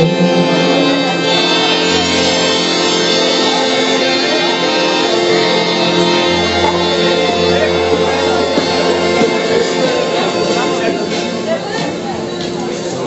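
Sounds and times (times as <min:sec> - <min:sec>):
deep sustained tone: 0:00.0 - 0:12.8
instruments holding sustained tones: 0:00.0 - 0:13.0.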